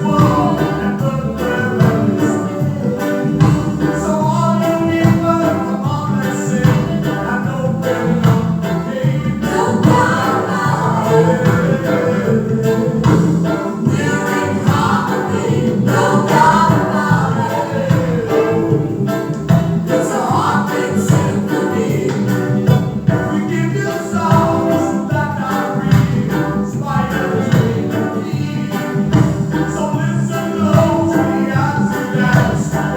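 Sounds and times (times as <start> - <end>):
shaking percussion: 0.0 - 32.9
steady beat: 0.0 - 32.9
voices singing together: 0.0 - 32.9.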